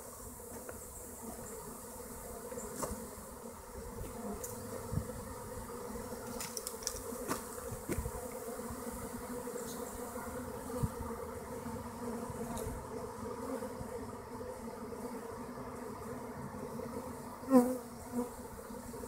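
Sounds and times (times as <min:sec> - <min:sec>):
buzz of bee swarm: 0:00.0 - 0:19.0.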